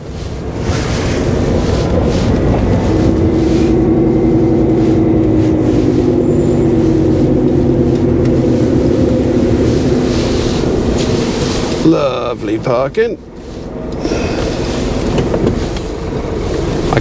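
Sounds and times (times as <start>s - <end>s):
lorry diesel engine drone: 0.0s - 17.0s.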